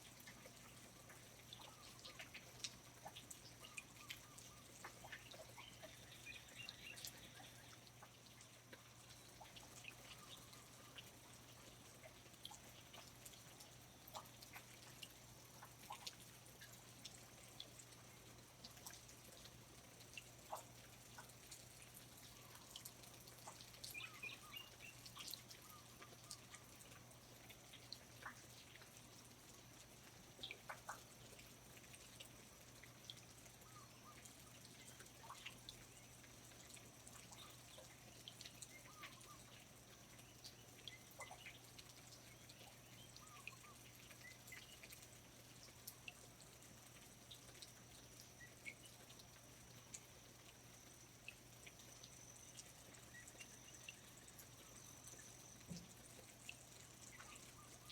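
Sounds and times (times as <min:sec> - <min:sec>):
water drips and ticks: 0:00.0 - 0:57.9.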